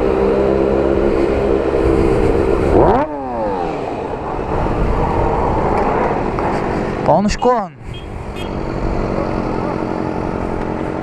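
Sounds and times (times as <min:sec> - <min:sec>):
motorcycle engine revving: 0:00.0 - 0:06.6, 0:07.8 - 0:11.0.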